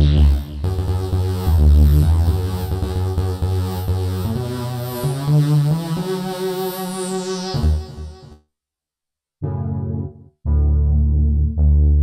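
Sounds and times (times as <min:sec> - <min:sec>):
synthesizer bass notes: 0:00.0 - 0:08.4, 0:09.4 - 0:12.0
synthesizer chords: 0:00.0 - 0:08.4, 0:09.4 - 0:12.0.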